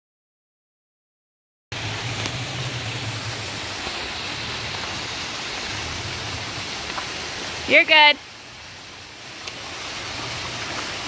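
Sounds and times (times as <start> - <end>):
stream running: 1.7 - 11.0
waterfall rushing: 1.7 - 11.0.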